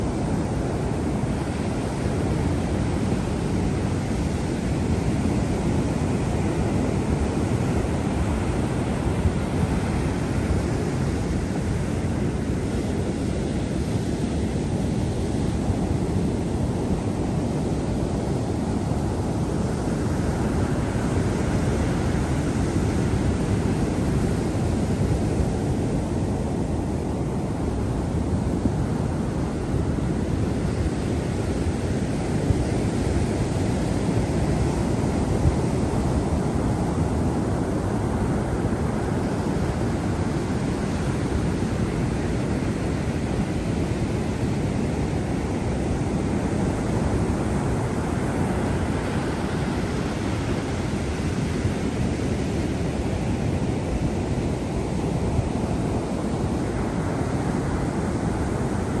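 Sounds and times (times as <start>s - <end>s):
sea surf washing ashore: 0.0s - 59.0s
wind rumbling on microphone: 0.0s - 59.0s.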